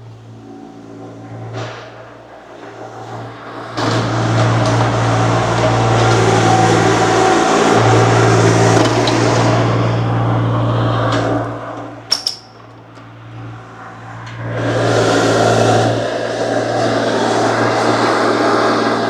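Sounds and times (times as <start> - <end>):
earthmoving machine engine under load: 0.0 - 19.0.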